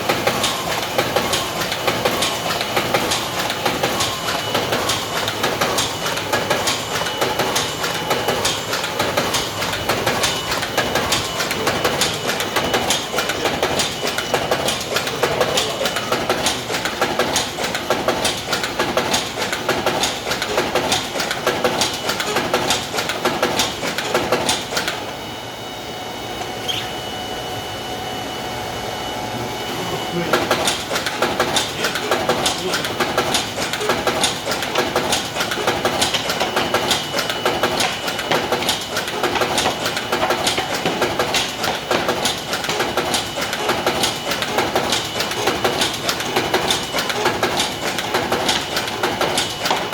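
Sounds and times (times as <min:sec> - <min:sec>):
folding machine clatter: 0:00.0 - 0:25.1, 0:30.2 - 0:49.9
steady machine hum: 0:00.0 - 0:49.9.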